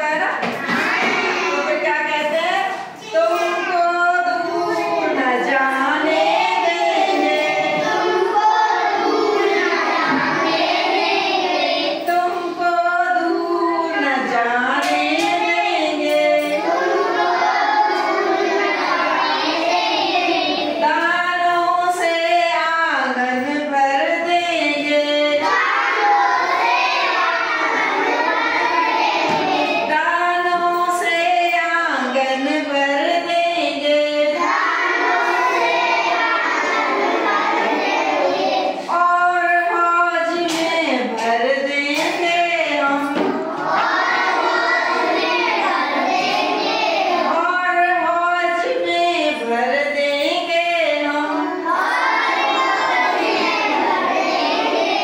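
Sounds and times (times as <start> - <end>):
children singing in unison: 0.4 - 1.8, 2.7 - 55.0.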